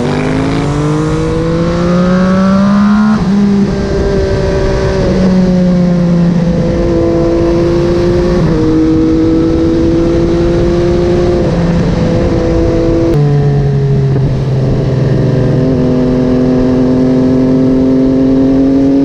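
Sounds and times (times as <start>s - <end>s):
motorcycle engine running: 0.0s - 19.0s
rushing wind: 0.0s - 19.0s.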